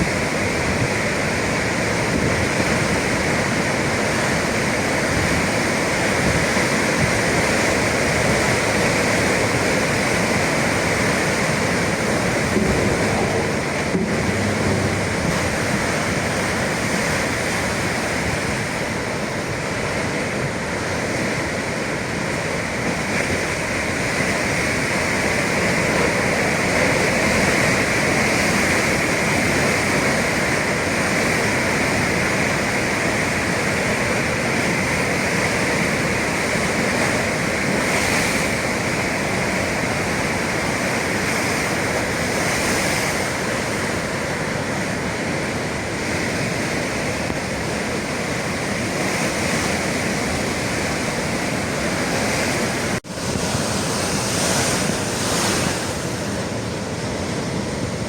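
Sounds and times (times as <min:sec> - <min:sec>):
breaking waves: 0:00.0 - 0:58.0.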